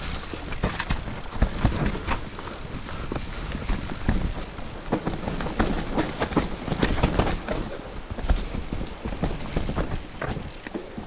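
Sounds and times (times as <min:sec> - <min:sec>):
bike rattling over rough trail: 0:00.0 - 0:11.0
wind rumble on microphone: 0:00.0 - 0:11.0.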